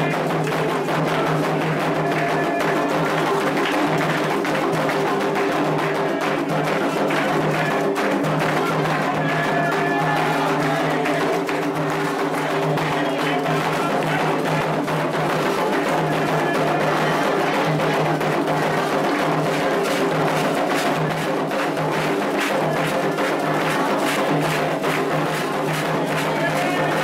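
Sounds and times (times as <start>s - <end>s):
hand drums: 0.0s - 27.0s
people singing: 0.0s - 27.0s.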